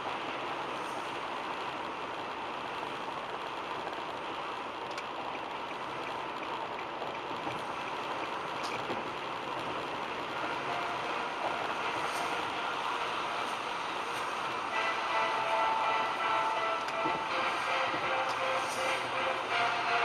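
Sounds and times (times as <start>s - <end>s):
tyre and wind noise in car: 0.0s - 19.0s.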